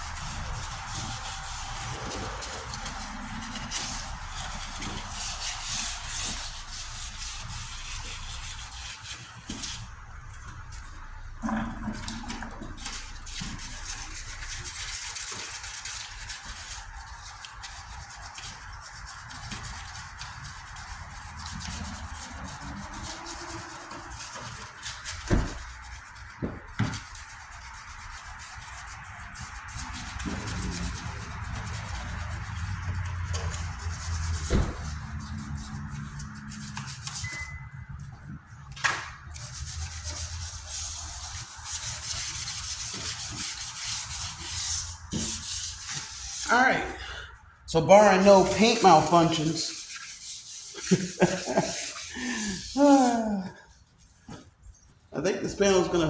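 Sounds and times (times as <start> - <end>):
sandpaper rubbing on metal: 0.0 - 38.2, 39.2 - 46.6, 48.0 - 53.5.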